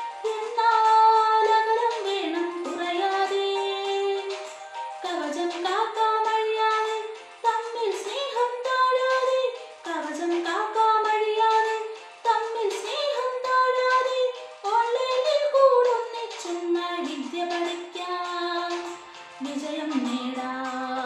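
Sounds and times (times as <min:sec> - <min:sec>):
girl singing: 0:00.2 - 0:21.0.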